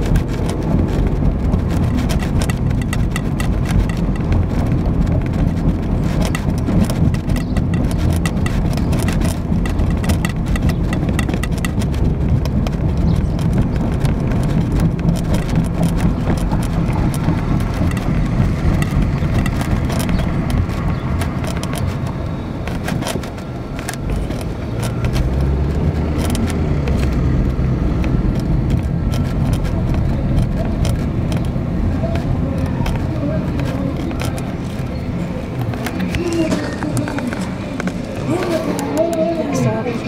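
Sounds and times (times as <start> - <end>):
short clicks and rattles: 0.0 - 39.7
car engine and road rumble: 0.0 - 40.0.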